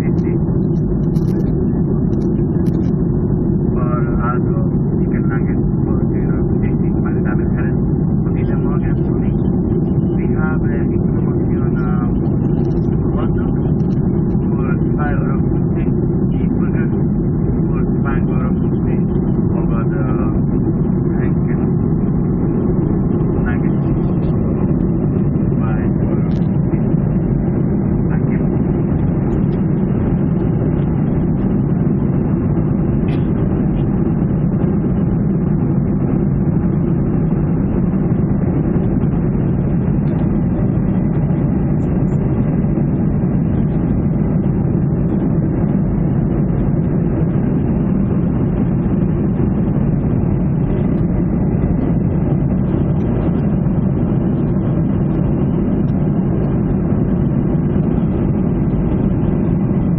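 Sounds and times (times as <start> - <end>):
jet engines droning: 0.0 - 59.9
rushing air in cabin: 0.0 - 59.9.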